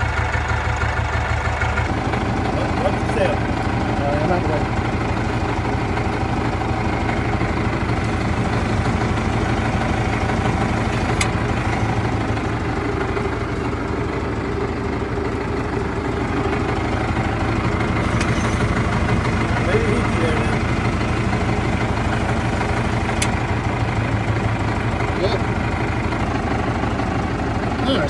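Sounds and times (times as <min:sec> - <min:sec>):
diesel tractor engine idling: 0:00.0 - 0:28.0.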